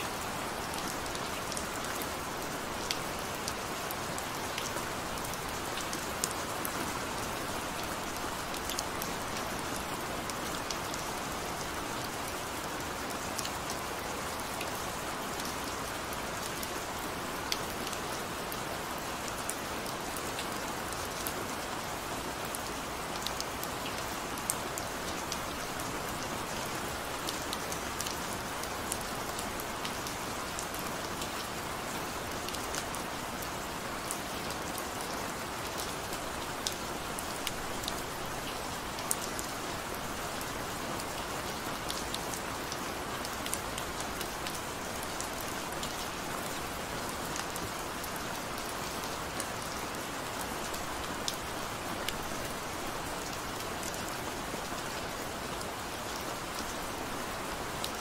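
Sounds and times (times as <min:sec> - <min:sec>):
gentle rain hissing: 0:00.0 - 0:58.0.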